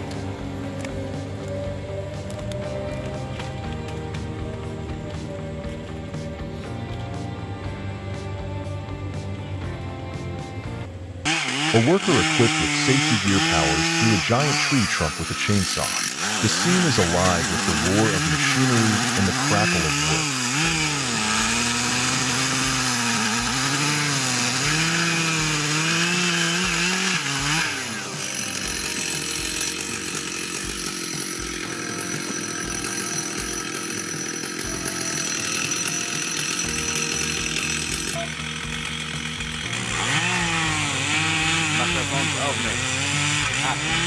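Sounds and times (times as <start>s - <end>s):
chainsaw cutting log: 0.0s - 44.0s.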